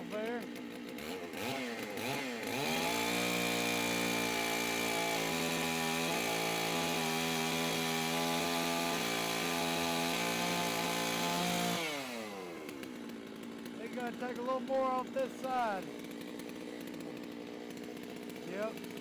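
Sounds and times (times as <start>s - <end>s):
chainsaw revving under load: 0.0s - 19.0s.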